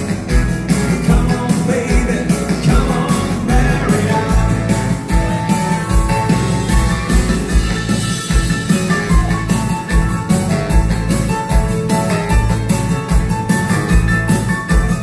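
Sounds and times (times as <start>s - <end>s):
electric guitars: 0.0s - 15.0s
live rock and roll band: 0.0s - 15.0s.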